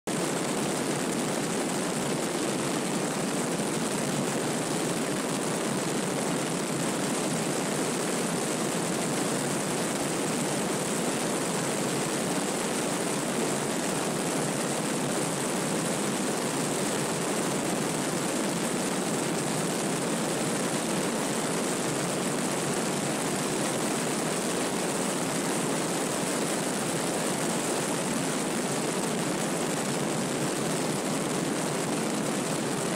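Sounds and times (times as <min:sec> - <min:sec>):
propeller airplane in flight: 0:00.1 - 0:32.9.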